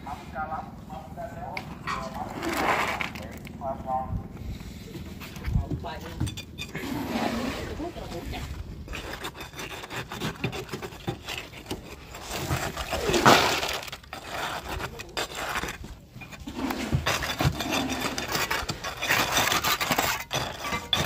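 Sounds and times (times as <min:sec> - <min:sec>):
trowel scraping wet concrete: 0:02.0 - 0:03.6, 0:05.4 - 0:21.0.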